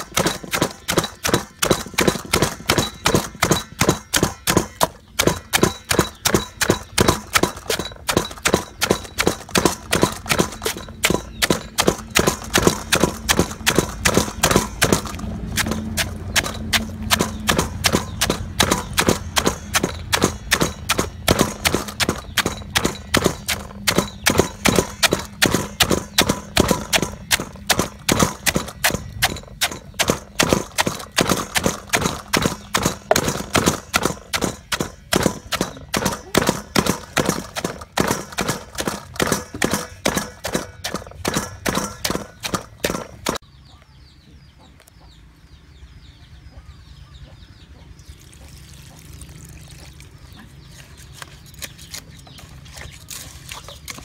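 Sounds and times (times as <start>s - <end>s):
wooden pestle pounding in mortar: 0.0s - 43.4s.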